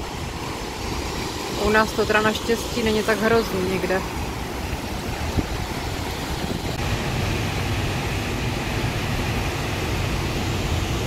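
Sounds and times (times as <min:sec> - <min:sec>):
turbulent water rushing: 0:00.0 - 0:11.0.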